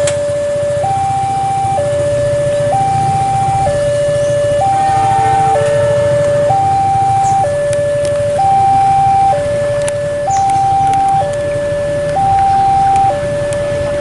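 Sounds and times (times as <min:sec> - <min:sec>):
low steady rumble: 0:00.0 - 0:14.0
two-tone level-crossing alarm: 0:00.0 - 0:14.0.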